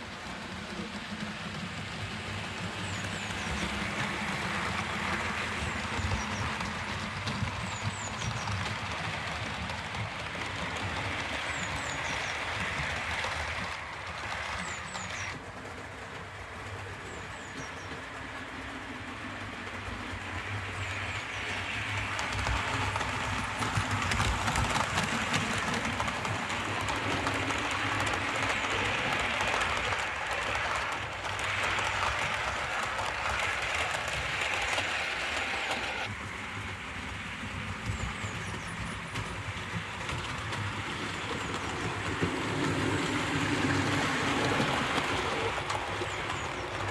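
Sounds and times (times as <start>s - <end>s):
model train rumbling: 0.0s - 46.9s
wheels clicking over rail joints: 0.0s - 46.9s.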